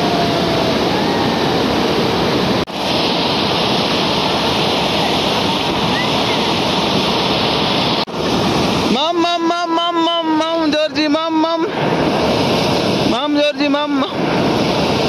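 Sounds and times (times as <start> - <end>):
waterfall rushing over rock: 0.0 - 15.0.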